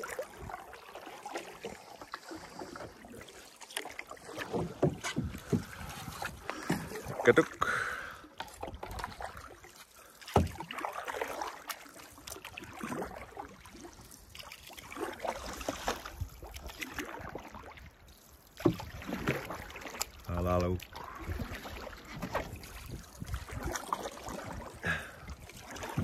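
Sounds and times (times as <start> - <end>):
paddle pulling through water: 0.0 - 26.0
water splashing and dripping: 0.0 - 26.0.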